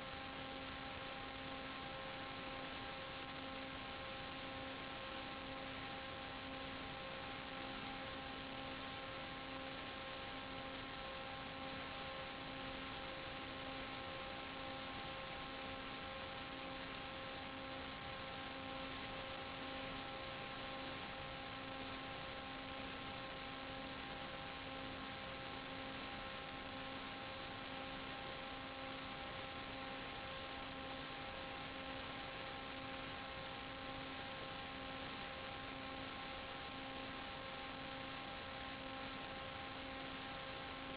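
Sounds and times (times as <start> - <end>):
buzzing hum: 0.0 - 40.9.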